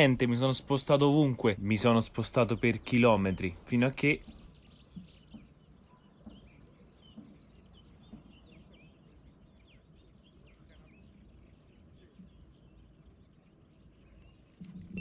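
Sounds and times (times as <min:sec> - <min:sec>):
low outdoor hum: 0:00.0 - 0:15.0
small birds chirping: 0:00.0 - 0:15.0.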